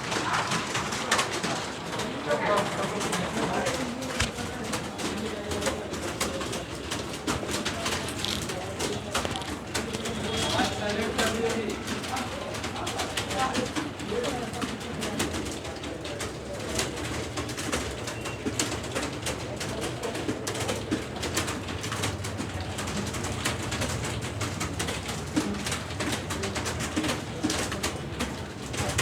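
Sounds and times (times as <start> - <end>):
keyboards clattering: 0.0 - 29.0.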